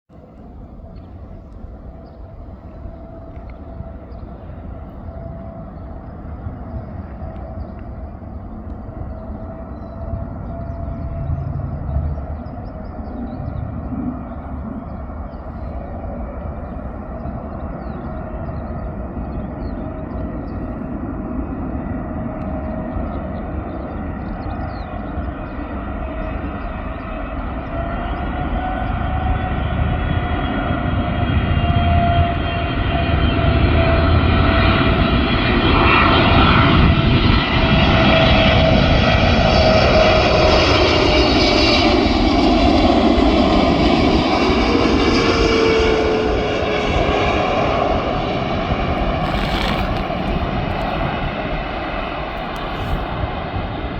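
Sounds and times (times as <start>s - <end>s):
jet engines rumbling with fan whine: 0.1s - 53.9s.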